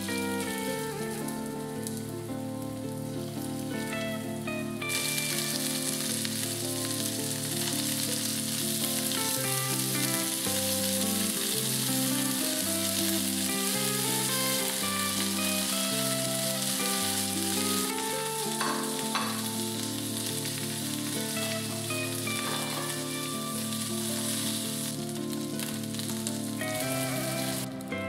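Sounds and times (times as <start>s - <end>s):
background music: 0.0s - 28.0s
meat sizzling in frying pan: 0.0s - 28.0s.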